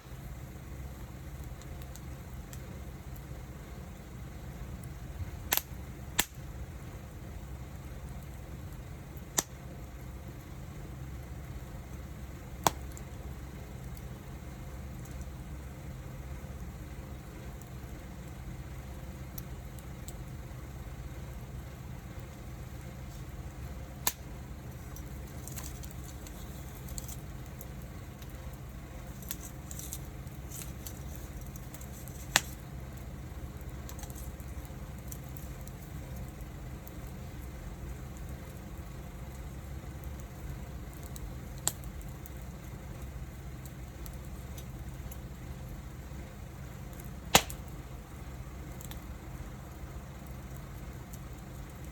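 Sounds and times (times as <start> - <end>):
sharp pops from burning wood: 0.0 - 51.9
wood fire rumbling and crackling: 0.0 - 51.9.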